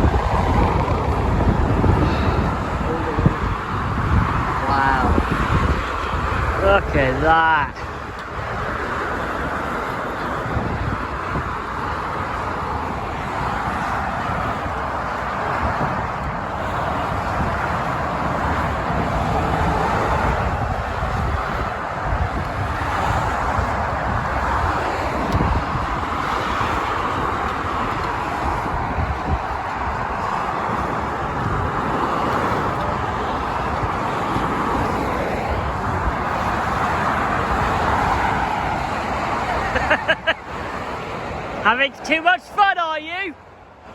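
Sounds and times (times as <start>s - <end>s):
motorway traffic roar: 0.0s - 43.9s.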